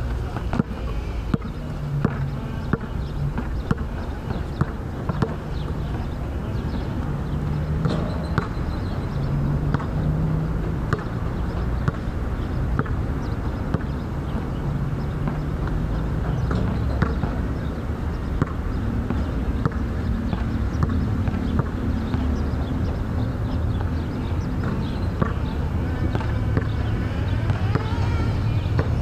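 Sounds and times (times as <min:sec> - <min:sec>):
low engine hum: 0:00.0 - 0:29.0
basketball bouncing on hard court: 0:00.4 - 0:06.8, 0:07.4 - 0:29.0.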